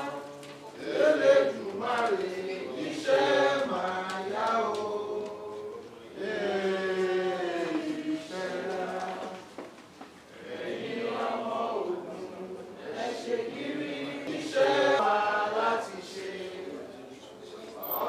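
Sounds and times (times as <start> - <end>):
voices chanting a prayer: 0.0 - 18.0.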